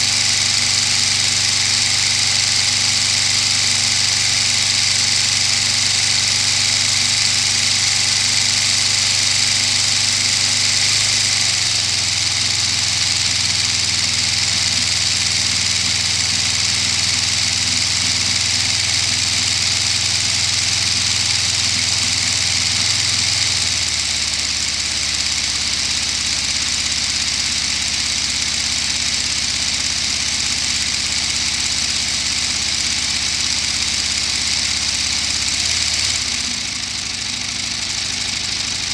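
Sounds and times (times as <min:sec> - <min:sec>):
model engine running with high hiss: 0:00.0 - 0:38.9.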